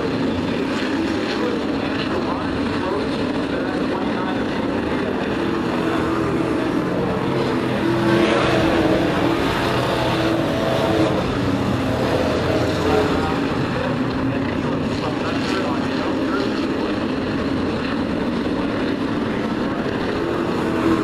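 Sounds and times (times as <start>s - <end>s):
race truck engines: 0.0s - 21.0s.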